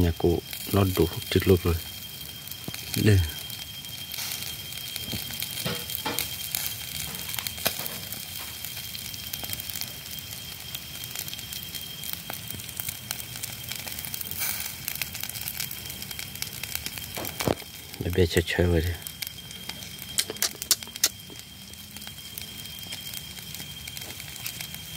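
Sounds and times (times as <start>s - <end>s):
charcoal fire crackling and popping: 0.0s - 24.9s.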